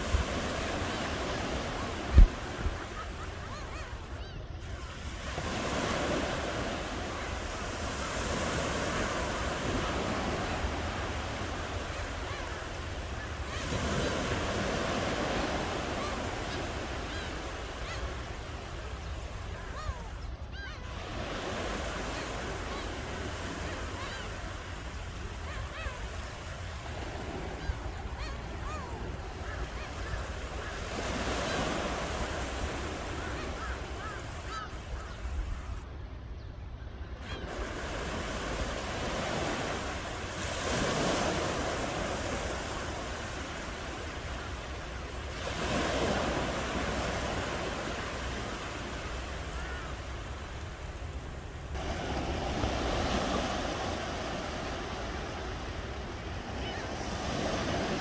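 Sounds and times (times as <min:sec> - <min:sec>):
ocean waves washing ashore: 0:00.0 - 0:36.0, 0:37.2 - 0:58.0.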